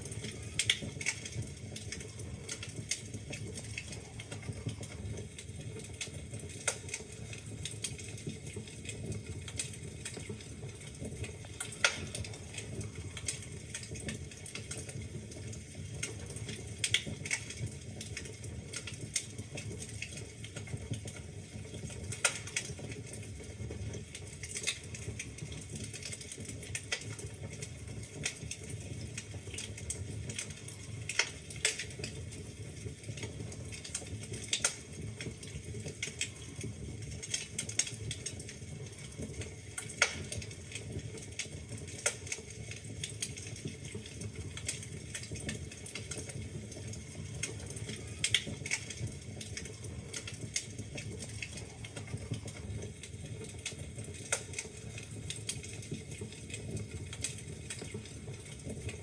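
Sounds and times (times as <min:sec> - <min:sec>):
logs crackling and popping: 0:00.0 - 0:59.0
low rush of flames: 0:00.0 - 0:59.0.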